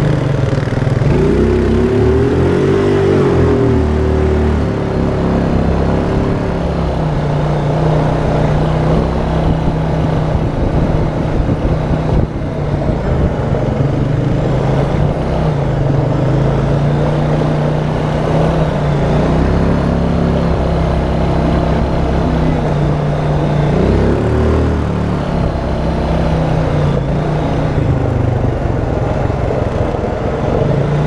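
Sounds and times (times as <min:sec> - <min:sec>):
atv engine running: 0:00.0 - 0:31.0
wind and trail noise: 0:00.0 - 0:31.0.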